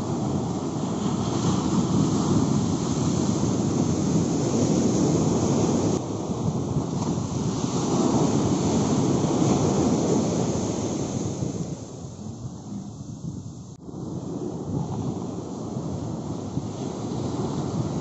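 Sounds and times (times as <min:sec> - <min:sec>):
surf breaking on beach: 0:00.0 - 0:18.0
wind rumbling on microphone: 0:00.0 - 0:18.0.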